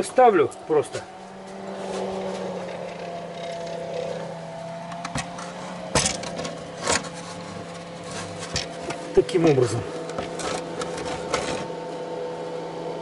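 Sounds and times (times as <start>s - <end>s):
cooling fan humming: 0.0s - 13.0s.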